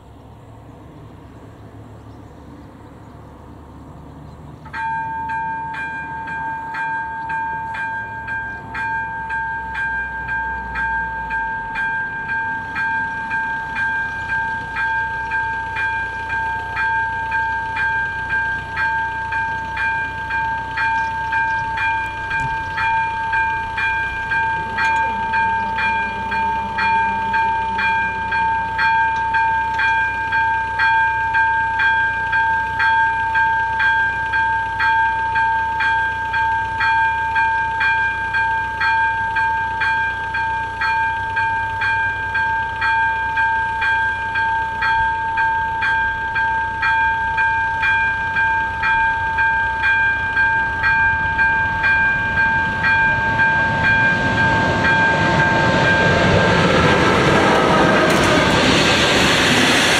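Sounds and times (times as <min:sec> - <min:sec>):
level crossing warning bell: 0:04.6 - 0:58.6.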